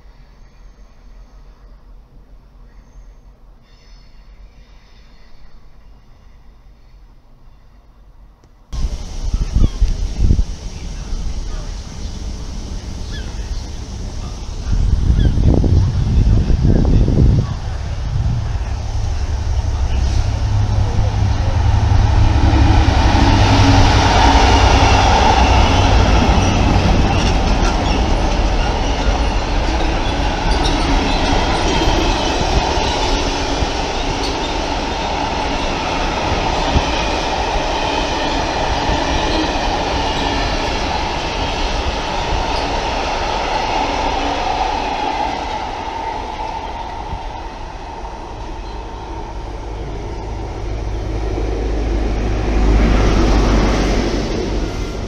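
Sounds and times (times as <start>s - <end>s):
train approaching: 0.0s - 55.0s
diesel locomotive engine: 8.2s - 55.0s.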